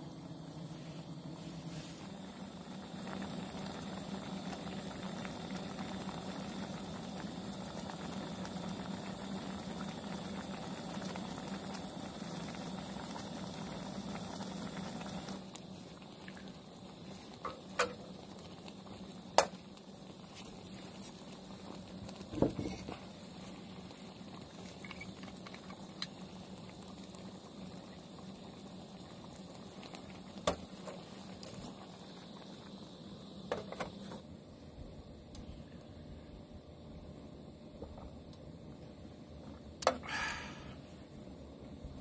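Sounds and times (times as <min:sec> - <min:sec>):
pot bubbling at a boil: 0:00.0 - 0:42.0.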